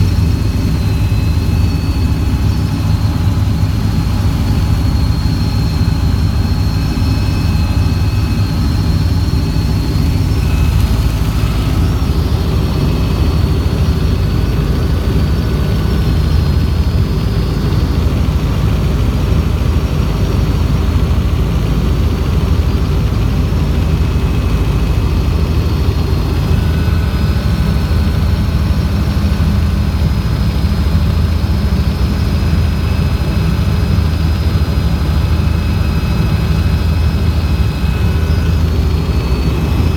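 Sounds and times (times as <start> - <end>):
faint high whine: 0.0 - 39.9
helicopter rotor and engine: 0.0 - 39.9.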